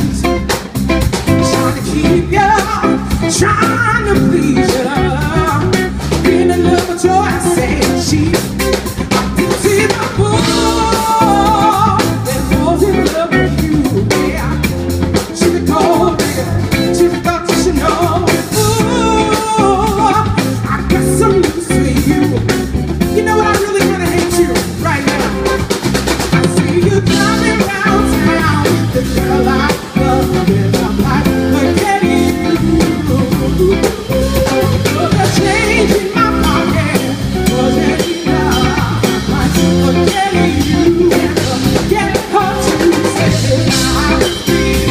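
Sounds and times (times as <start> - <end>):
woman singing: 0.0 - 0.6, 1.2 - 44.9
drum kit beat: 0.0 - 44.9
electric guitar: 0.0 - 44.9.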